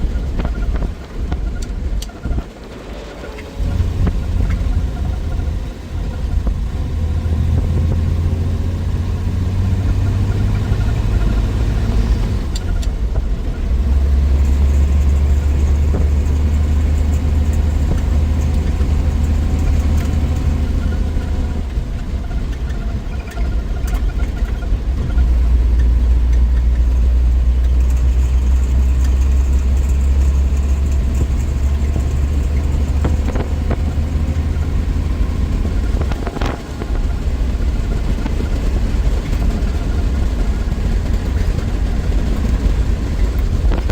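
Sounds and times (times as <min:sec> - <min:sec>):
car engine droning: 0:00.0 - 0:43.9.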